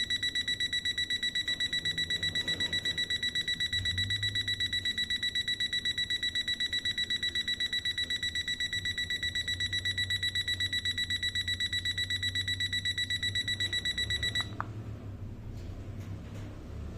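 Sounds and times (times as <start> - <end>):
alarm clock beeping: 0.0 - 14.6.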